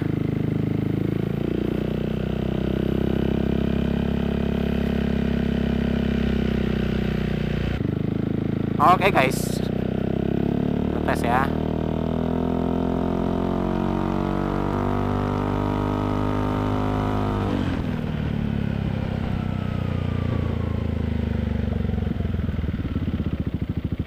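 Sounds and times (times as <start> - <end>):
motor scooter engine revving: 0.0 - 24.0.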